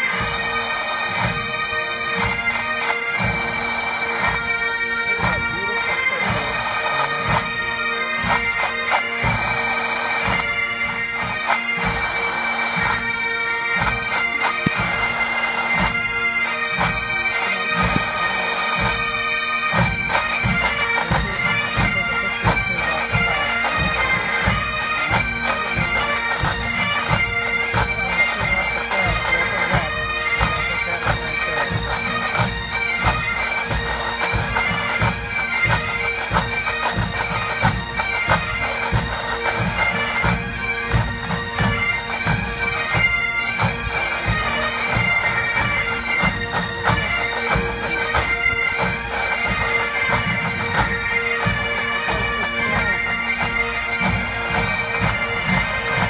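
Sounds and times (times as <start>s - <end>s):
bagpipes playing with drones: 0.0s - 56.0s.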